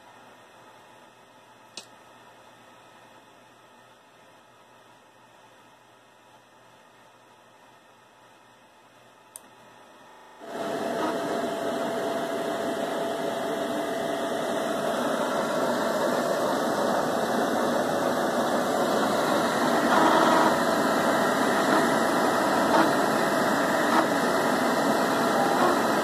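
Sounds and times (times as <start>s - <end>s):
printer fans and motors whirring: 2.2s - 26.0s.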